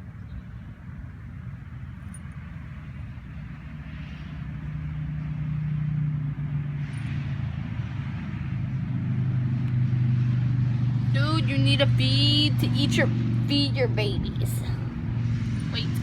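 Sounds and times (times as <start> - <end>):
motor engine humming: 0.0 - 16.0.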